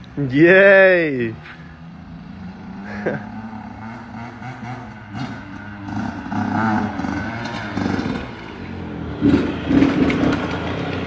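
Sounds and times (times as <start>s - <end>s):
dirt bike engine revving: 1.8s - 11.0s.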